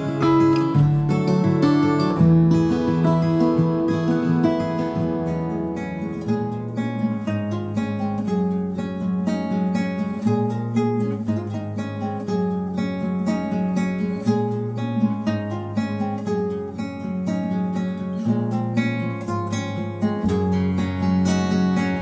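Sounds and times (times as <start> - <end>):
acoustic guitar strumming and picking: 0.0 - 22.0.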